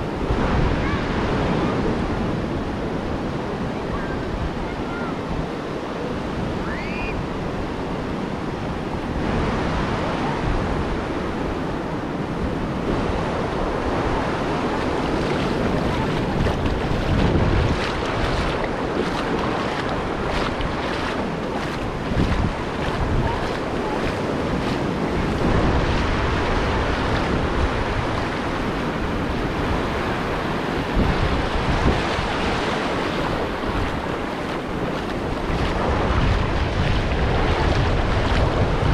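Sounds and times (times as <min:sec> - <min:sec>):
surf washing on beach: 0:00.0 - 0:38.9
wind rumbling on microphone: 0:00.0 - 0:38.9.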